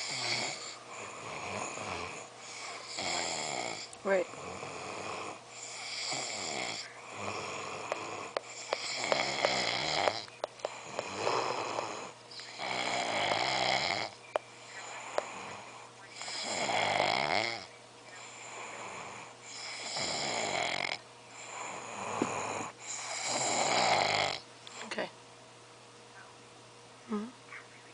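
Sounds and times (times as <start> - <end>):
person snoring: 0.0 - 14.2, 14.8 - 24.4.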